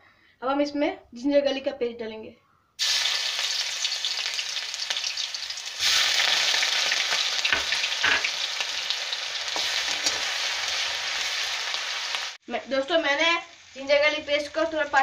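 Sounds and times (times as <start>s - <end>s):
paste sizzling in hot oil: 2.8s - 15.0s.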